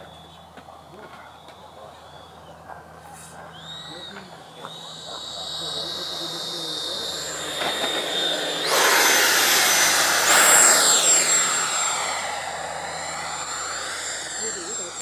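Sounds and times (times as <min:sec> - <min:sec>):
electric ducted fan whining: 0:00.0 - 0:15.0.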